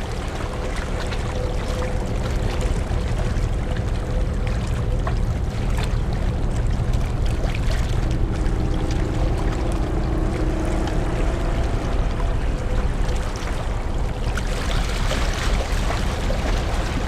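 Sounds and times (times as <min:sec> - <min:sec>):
faint steady hum: 0:00.0 - 0:17.0
ferry engine rumble: 0:00.0 - 0:17.0
rushing water: 0:00.0 - 0:17.0.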